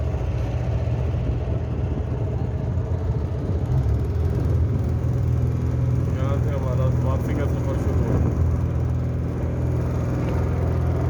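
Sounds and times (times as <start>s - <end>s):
wind noise: 0.0s - 6.1s, 7.3s - 11.0s
boat engine humming: 0.0s - 11.0s.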